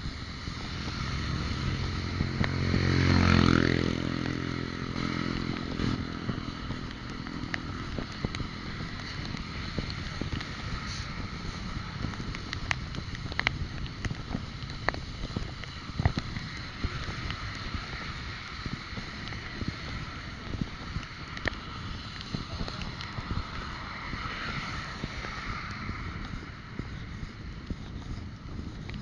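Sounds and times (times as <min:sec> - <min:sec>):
bike road noise: 0:00.0 - 0:29.0
wind rumbling on microphone: 0:00.0 - 0:29.0.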